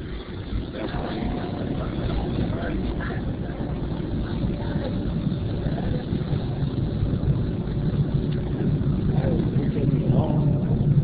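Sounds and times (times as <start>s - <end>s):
subway train rumbling: 0.0s - 11.0s.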